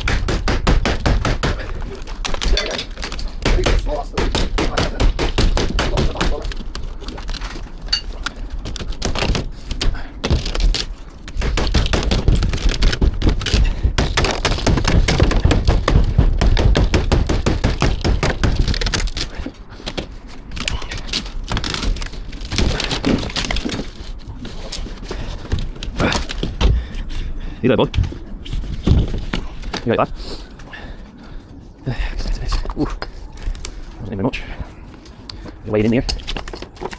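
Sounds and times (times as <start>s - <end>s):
roof cracking and snapping: 0.0s - 27.0s, 31.5s - 36.9s.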